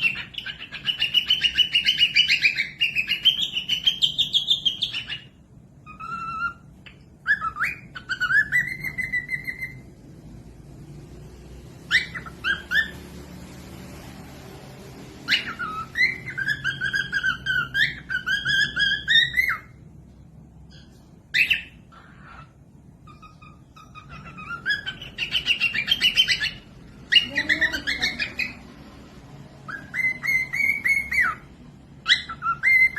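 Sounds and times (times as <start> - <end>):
cockatiel whistling: 0.0 - 9.9, 11.8 - 13.4, 15.2 - 19.8, 20.7 - 28.7, 29.6 - 32.9.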